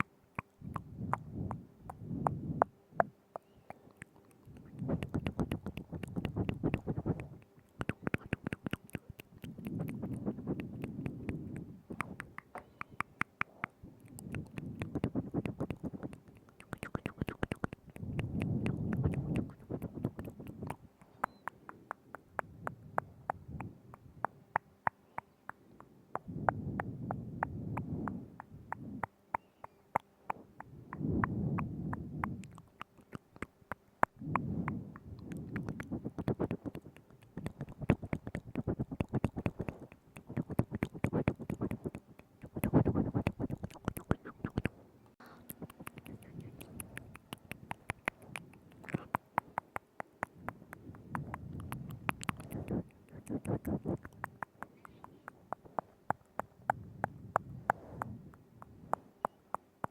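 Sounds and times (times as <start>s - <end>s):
wet tongue and lip clicks: 0.0s - 59.9s.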